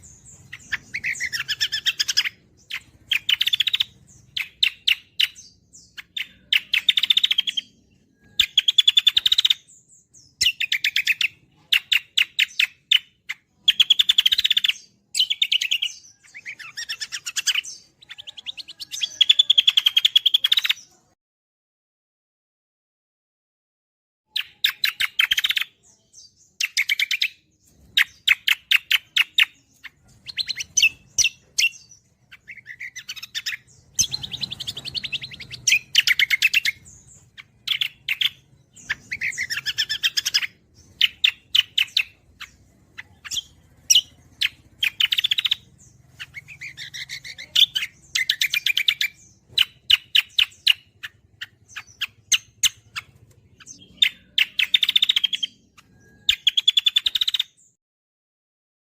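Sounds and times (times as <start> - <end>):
songbird singing chattering trills: 0.0 - 21.1, 24.3 - 57.8.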